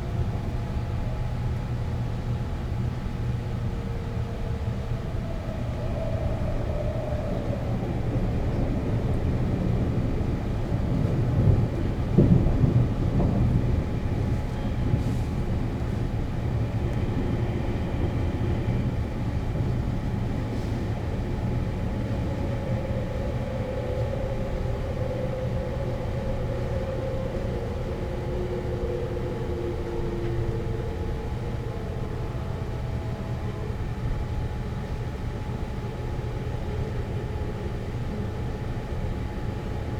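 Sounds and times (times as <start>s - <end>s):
train rattling: 0.0s - 39.9s
train rumbling on rails: 0.0s - 39.9s
faint falling whine: 3.5s - 36.4s.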